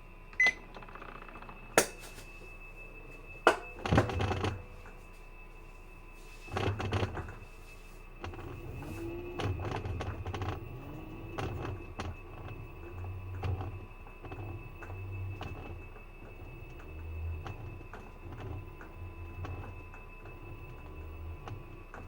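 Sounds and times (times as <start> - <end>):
short rising whine: 0.0 - 22.0
washing machine spinning: 0.0 - 22.0.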